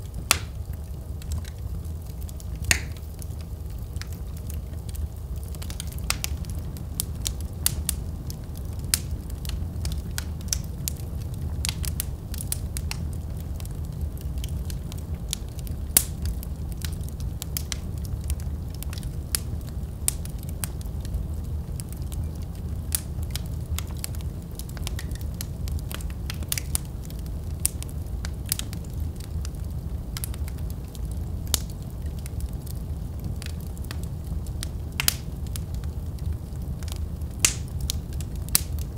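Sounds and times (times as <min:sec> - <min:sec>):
low rumble of flame: 0:00.0 - 0:38.9
wood fire crackling and popping: 0:00.0 - 0:38.9.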